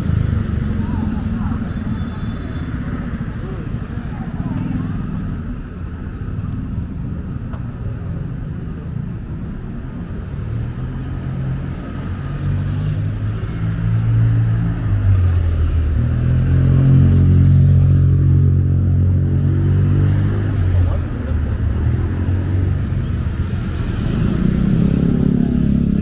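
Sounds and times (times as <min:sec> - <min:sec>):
street noise: 0:00.0 - 0:26.0
vehicle engine humming: 0:00.0 - 0:26.0.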